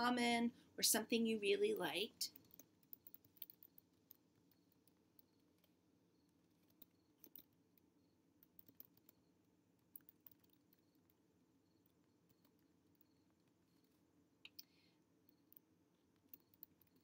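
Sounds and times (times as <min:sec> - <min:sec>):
typing on computer keyboard: 0:02.3 - 0:11.2, 0:11.8 - 0:17.0.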